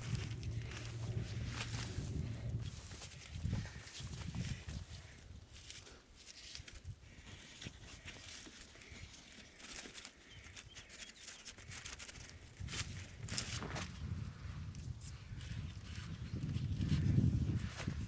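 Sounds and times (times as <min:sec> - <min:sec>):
faint rustling and crackling: 0:00.0 - 0:18.0.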